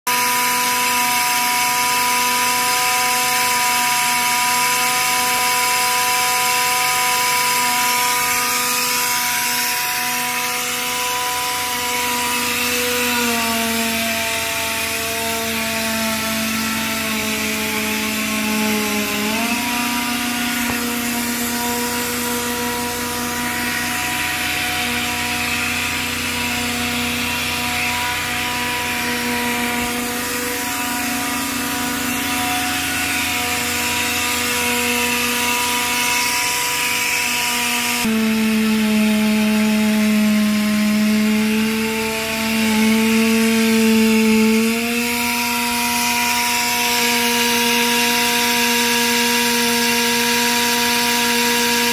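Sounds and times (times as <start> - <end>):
motor whining: 0.1 - 51.9.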